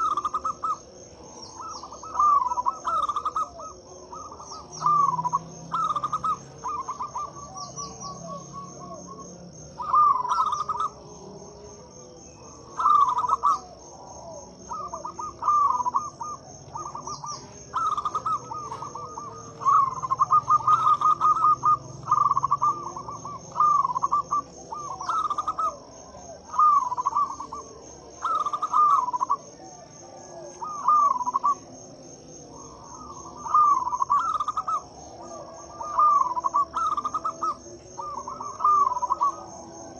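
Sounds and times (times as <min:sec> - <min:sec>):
dove cooing: 0:00.0 - 0:39.9
insect pulsing trill: 0:00.0 - 0:39.9.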